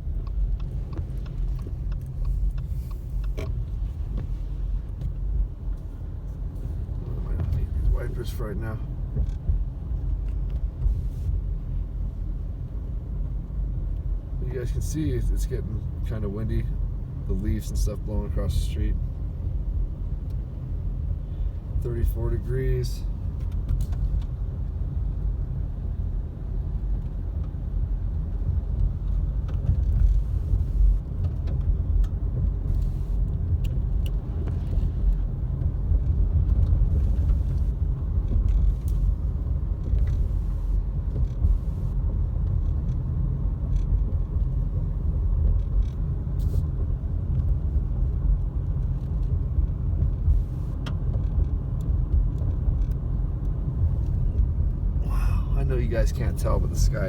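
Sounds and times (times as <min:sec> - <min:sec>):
car driving rumble inside cabin: 0:00.0 - 0:57.0.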